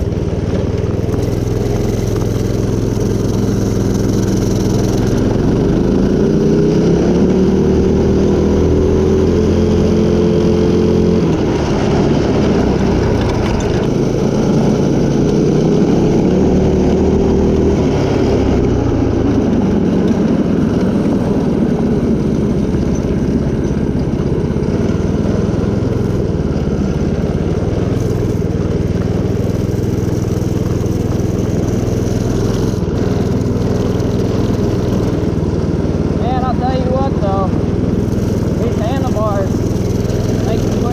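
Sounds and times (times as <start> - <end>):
small gas engine revving: 0.0 - 40.9.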